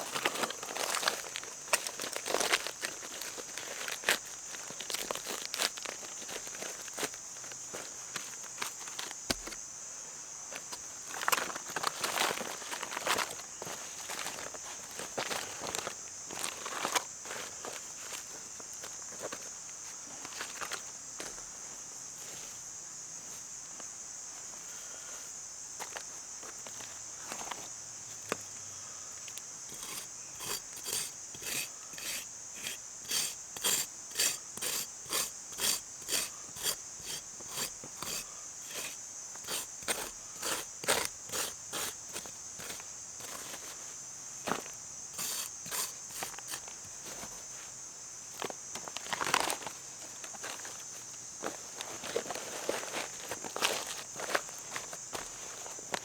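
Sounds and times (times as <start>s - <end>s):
crunching footsteps: 0.0s - 9.6s, 10.5s - 22.6s, 25.8s - 28.5s, 29.7s - 56.0s.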